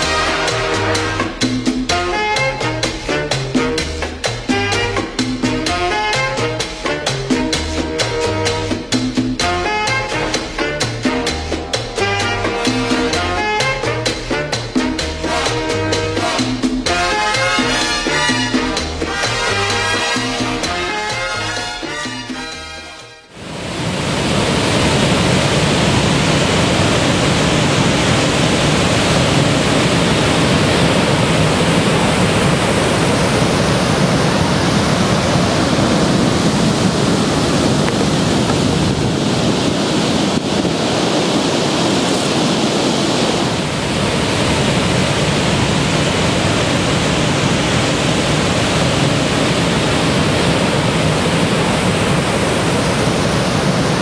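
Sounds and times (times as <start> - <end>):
waterfall rushing: 0.0 - 21.8, 23.3 - 54.0.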